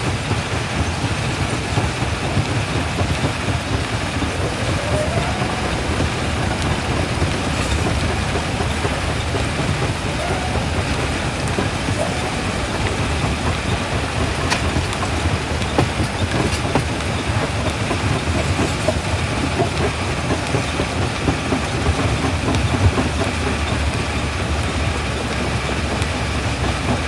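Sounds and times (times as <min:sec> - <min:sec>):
rock crusher rumbling: 0:01.0 - 0:27.0.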